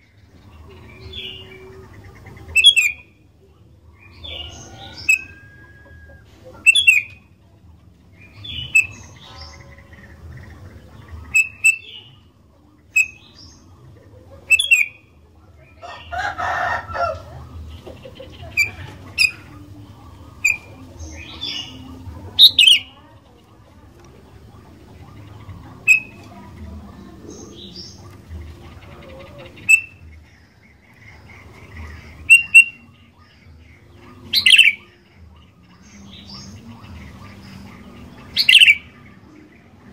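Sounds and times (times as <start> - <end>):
bird chirping: 0.0 - 15.2, 17.0 - 39.9.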